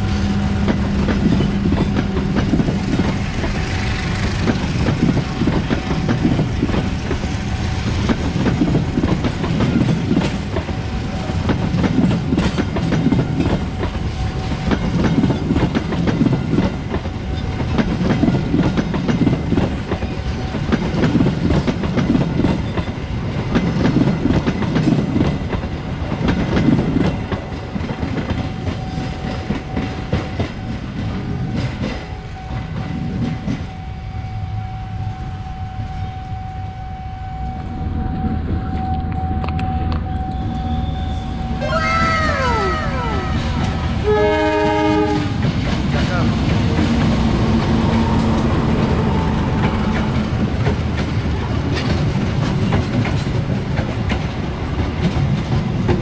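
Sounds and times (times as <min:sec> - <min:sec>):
train wheels clattering on rails: 0:00.0 - 0:34.0, 0:42.2 - 0:56.0.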